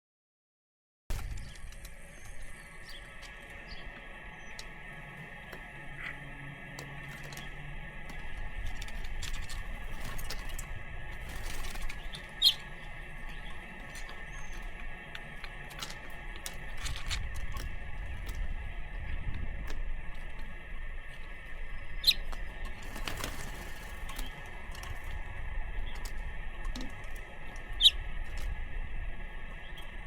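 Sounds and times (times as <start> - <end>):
wing flutters: 1.1 - 19.2, 22.0 - 30.0
birds clicking and squeaking: 1.1 - 30.0
low steady rumble: 1.1 - 30.0.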